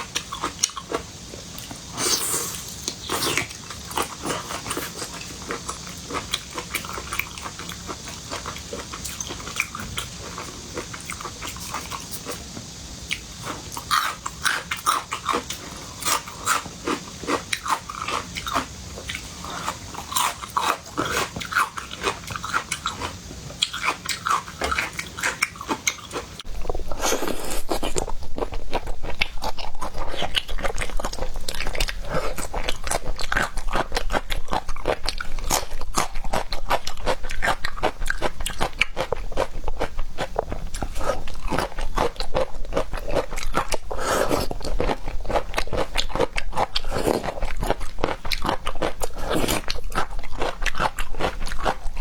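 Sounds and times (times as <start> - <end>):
person chewing seafood: 0.0 - 52.0.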